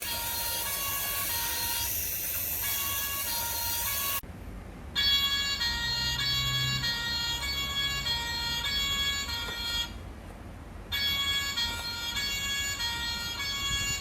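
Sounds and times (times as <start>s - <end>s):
electronic two-tone siren: 0.0s - 4.2s, 5.0s - 10.0s, 10.9s - 14.0s.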